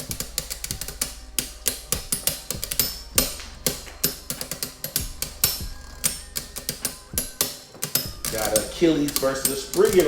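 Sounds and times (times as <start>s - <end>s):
sharp plastic clacks: 0.0s - 10.0s.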